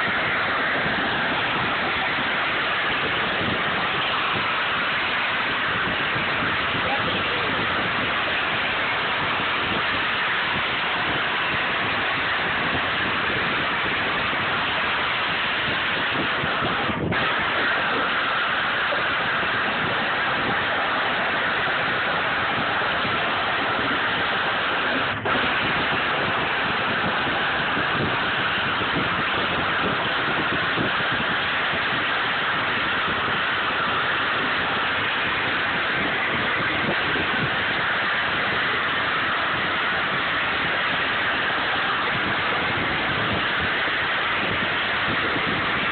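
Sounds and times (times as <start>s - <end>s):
wheels rolling on asphalt: 0.0s - 45.9s
wind on microphone: 0.0s - 45.9s.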